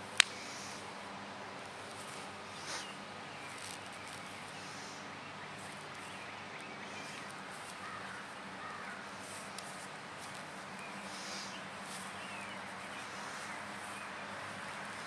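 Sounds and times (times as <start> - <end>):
background hiss: 0.0 - 15.0
faint birds chirping: 0.0 - 15.0.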